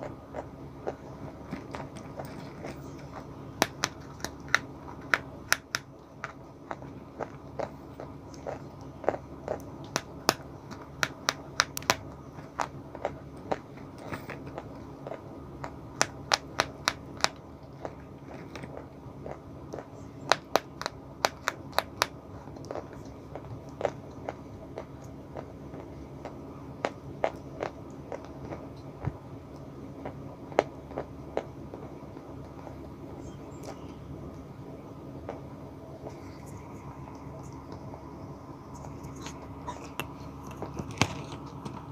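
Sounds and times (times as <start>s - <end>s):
chewing chalk crunches: 0.0s - 32.9s, 38.7s - 41.9s.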